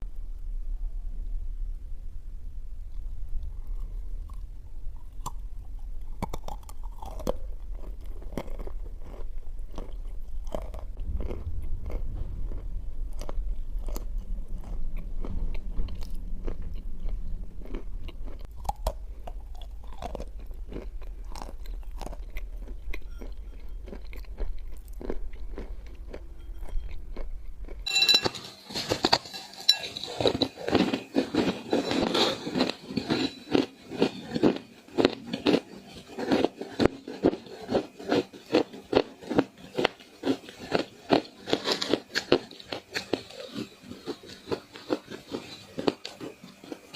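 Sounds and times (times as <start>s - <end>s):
steady low hum: 0.0s - 46.9s
clay being chewed crunching: 2.9s - 46.9s.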